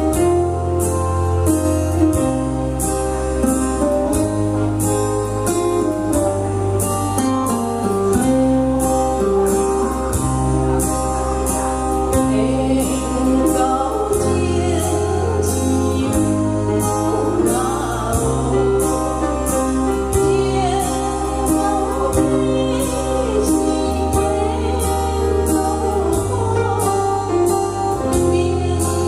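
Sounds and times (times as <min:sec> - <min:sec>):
pop ballad music: 0:00.0 - 0:29.0.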